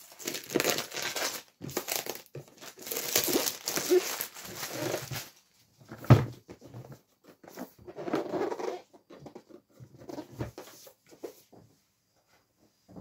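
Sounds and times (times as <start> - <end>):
cardboard rustling and scraping: 1.6 - 13.0.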